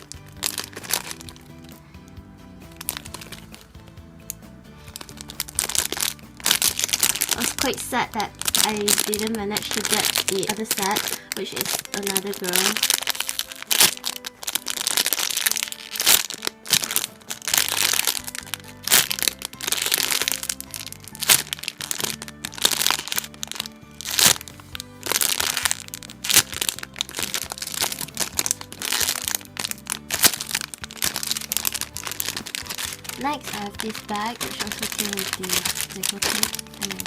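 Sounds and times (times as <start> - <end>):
plastic packaging crinkling: 0.0 - 1.8, 2.7 - 3.8, 4.8 - 37.0
music with low bass line: 0.0 - 37.0.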